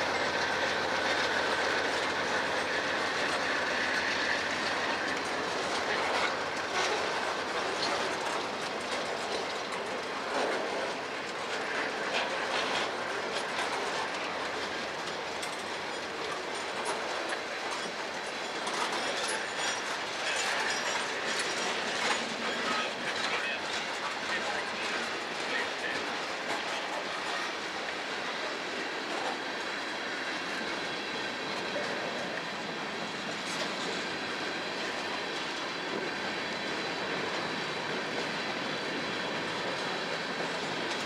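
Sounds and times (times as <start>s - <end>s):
steel wheels rumbling on rails: 0.0s - 41.0s
wheels clacking over rail joints: 0.0s - 41.0s.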